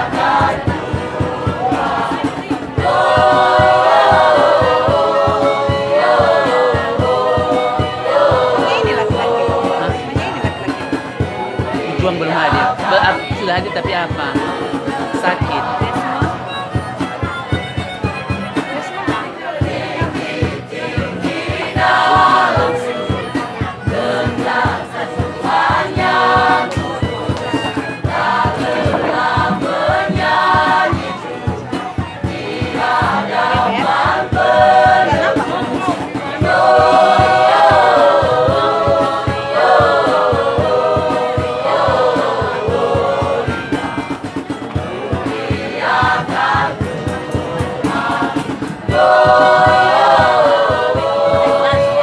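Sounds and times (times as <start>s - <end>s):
mixed choir singing: 0.0s - 52.0s.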